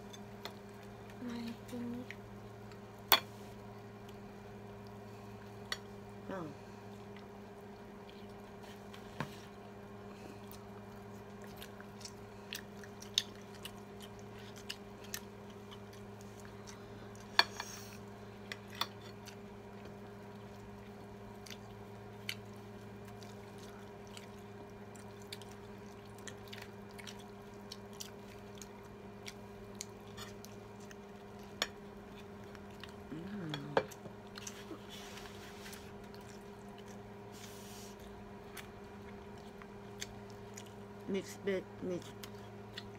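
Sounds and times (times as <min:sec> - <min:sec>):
quiet chewing: 0:00.0 - 0:42.9
steady low hum: 0:00.0 - 0:42.9.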